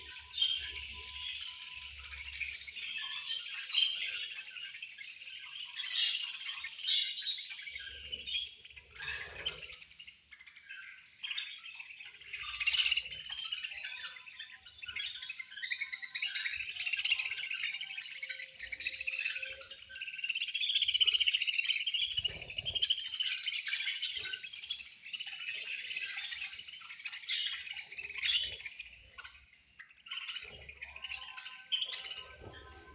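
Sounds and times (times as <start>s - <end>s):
budgerigars chirping and chattering: 0.0s - 32.9s.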